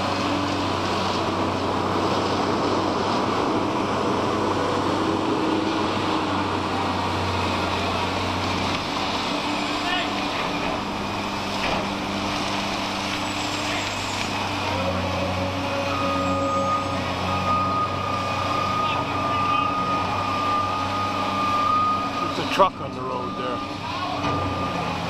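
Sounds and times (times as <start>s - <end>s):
excavator diesel engines droning: 0.0s - 25.0s.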